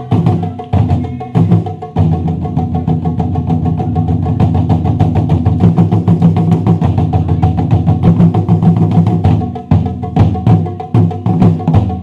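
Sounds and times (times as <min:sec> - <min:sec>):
ensemble of drums playing fast: 0:00.0 - 0:12.0.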